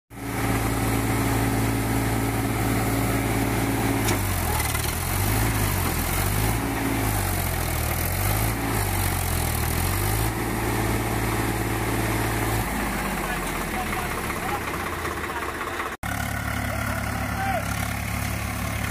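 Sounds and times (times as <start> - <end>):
tractor engines running under load: 0.1 - 18.9.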